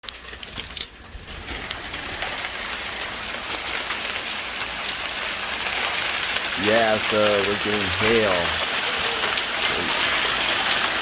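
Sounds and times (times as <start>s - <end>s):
hail pattering: 0.0s - 11.0s.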